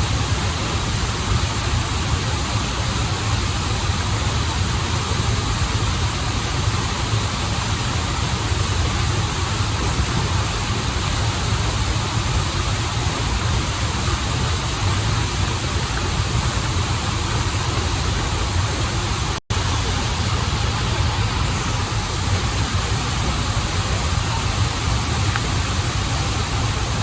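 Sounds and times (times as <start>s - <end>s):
stream and waterfall rushing: 0.0s - 27.0s.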